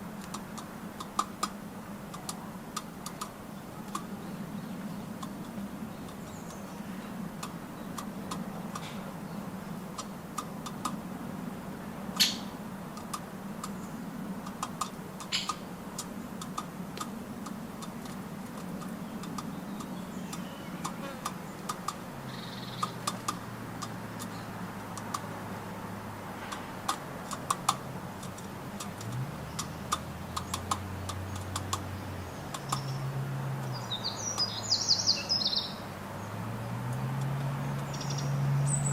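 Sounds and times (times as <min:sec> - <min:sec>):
birds pecking at nuts: 0:00.0 - 0:34.6.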